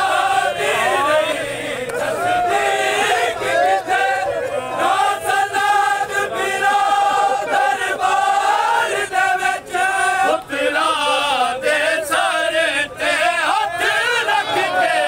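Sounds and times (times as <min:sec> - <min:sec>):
crowd joining in chant: 0:00.0 - 0:15.0
men chanting a lament: 0:00.0 - 0:15.0.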